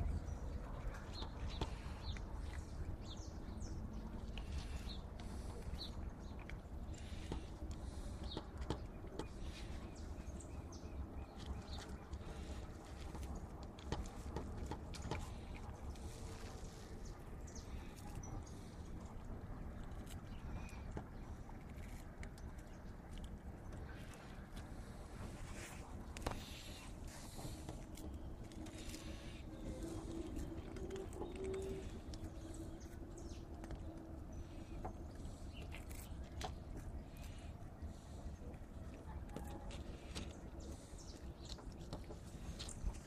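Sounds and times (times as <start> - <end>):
kittens crunching food: 0.0 - 43.0
low steady rumble: 0.0 - 43.0
steady low hum: 0.0 - 43.0.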